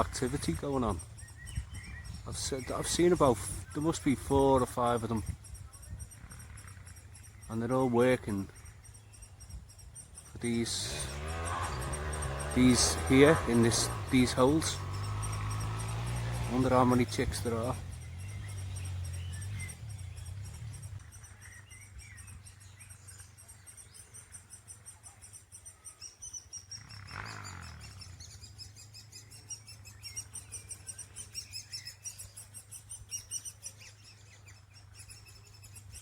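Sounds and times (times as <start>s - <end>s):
woodpecker chicks chirping: 0.0s - 36.0s.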